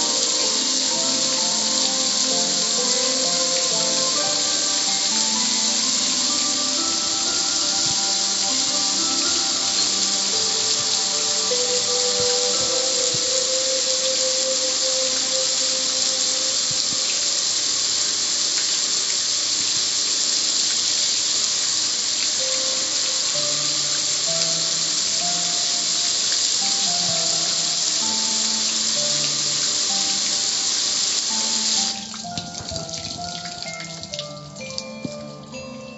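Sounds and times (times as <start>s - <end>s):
water spraying on metal: 0.0s - 35.5s.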